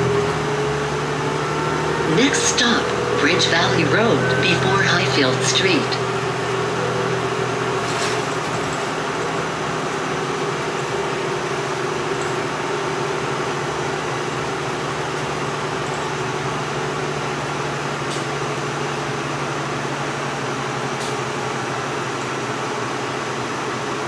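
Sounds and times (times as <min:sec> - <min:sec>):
bus engine hum: 0:00.0 - 0:24.0
road and ventilation noise: 0:00.0 - 0:24.0.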